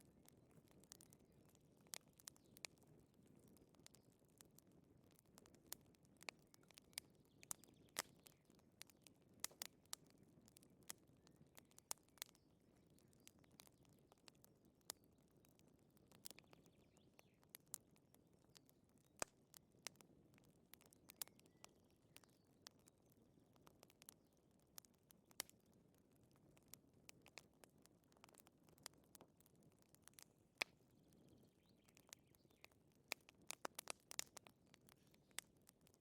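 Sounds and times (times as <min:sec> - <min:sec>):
low rustle of flame: 0:00.0 - 0:36.0
wood fire pops: 0:00.2 - 0:23.0, 0:26.2 - 0:36.0.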